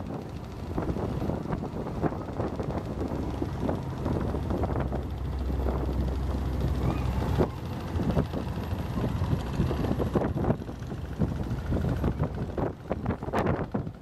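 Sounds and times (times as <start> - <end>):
boat engine drone: 0.0 - 14.0
wind buffeting microphone: 0.0 - 14.0.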